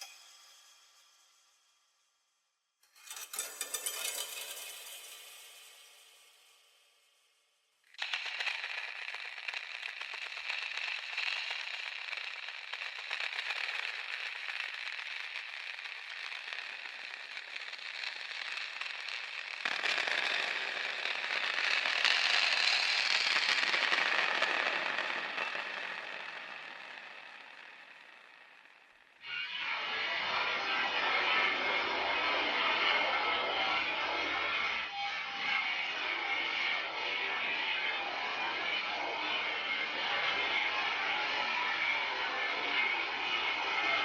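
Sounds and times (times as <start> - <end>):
crackling static-like noise: 7.9 - 44.0.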